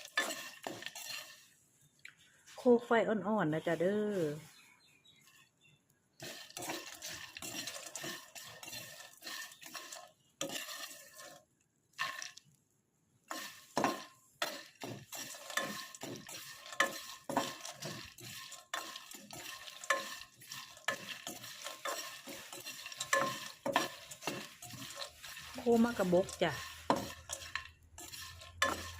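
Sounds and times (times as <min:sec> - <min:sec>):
spatula scraping seeds in a pan: 0:00.0 - 0:12.5, 0:13.2 - 0:28.9.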